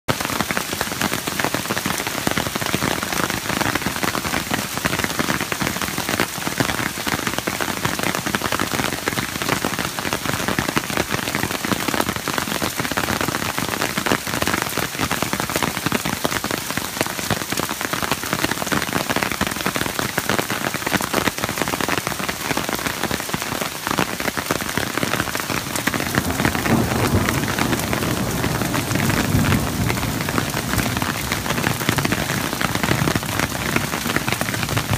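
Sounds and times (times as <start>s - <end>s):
heavy rain pelting hard surfaces: 0.1s - 34.9s.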